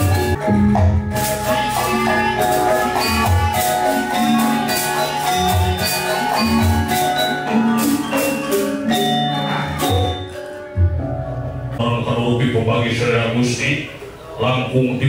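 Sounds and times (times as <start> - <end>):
metallophones ringing melody: 0.0 - 15.0.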